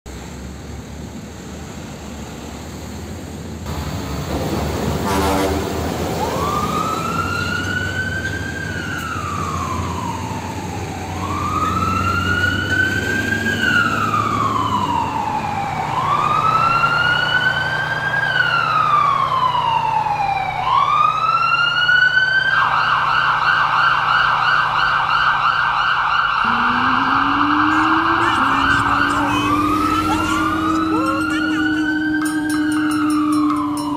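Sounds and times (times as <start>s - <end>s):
vehicle engine rumble: 0.1s - 21.0s, 26.3s - 33.9s
fire engine siren: 4.9s - 33.9s.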